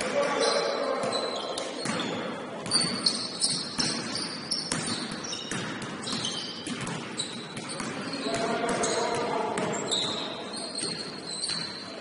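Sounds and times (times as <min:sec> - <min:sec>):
sneaker squeaks: 0:00.0 - 0:12.0
basketball bouncing on court: 0:01.0 - 0:12.0.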